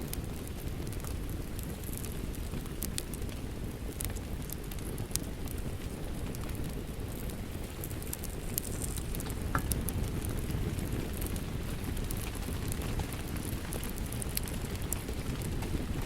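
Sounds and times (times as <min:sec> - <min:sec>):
falling rain: 0:00.0 - 0:16.0
wood fire crackling: 0:00.0 - 0:16.0.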